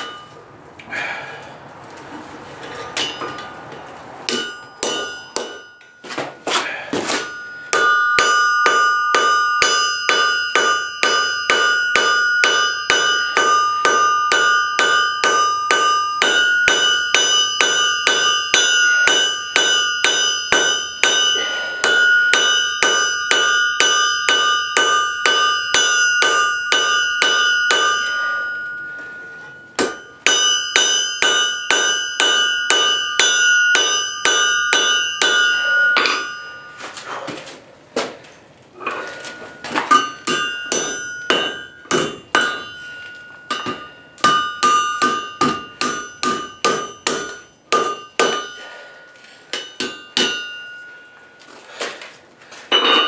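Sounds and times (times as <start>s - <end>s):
hammer ringing on anvil: 0.0s - 0.4s, 2.8s - 3.5s, 4.3s - 37.2s, 39.0s - 51.9s, 52.7s - 53.0s.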